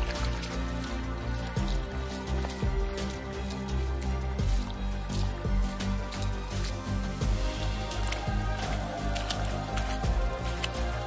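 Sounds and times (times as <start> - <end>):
music with steady low beat: 0.0 - 11.0.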